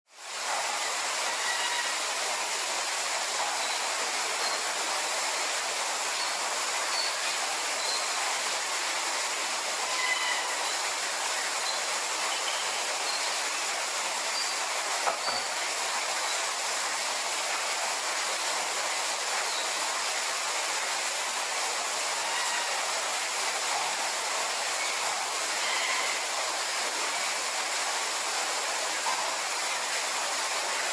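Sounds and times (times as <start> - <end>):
steady rushing hiss: 0.1 - 30.9.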